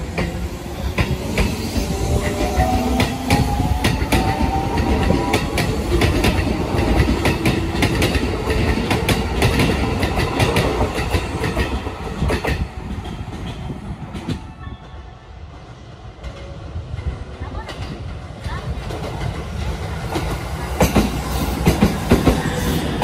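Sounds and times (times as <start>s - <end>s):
train wheels clacking over rail joints: 0.0s - 14.4s, 16.2s - 23.0s.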